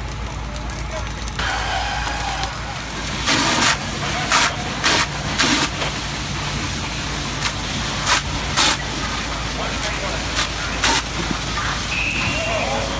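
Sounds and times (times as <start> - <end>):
fire engine motor running: 0.0 - 12.9.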